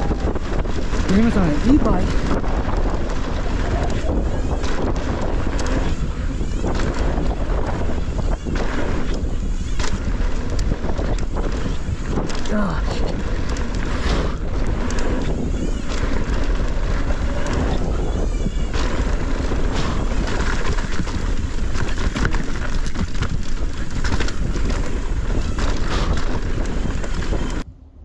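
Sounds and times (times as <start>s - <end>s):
bike knocks and rattles: 0.0s - 27.6s
bike tyres on dirt trail: 0.0s - 27.7s
wind buffeting microphone: 0.0s - 28.0s.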